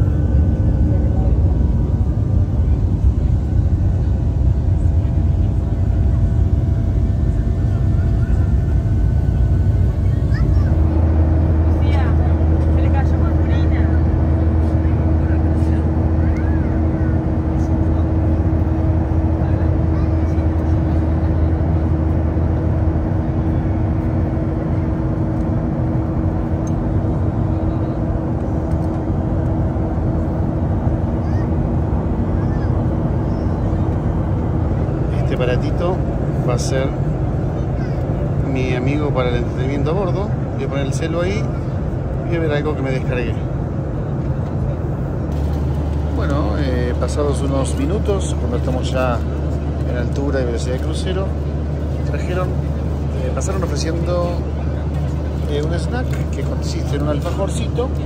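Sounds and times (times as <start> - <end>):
airplane cabin engine rumble: 0.0 - 58.0
faint steady hums: 0.0 - 58.0.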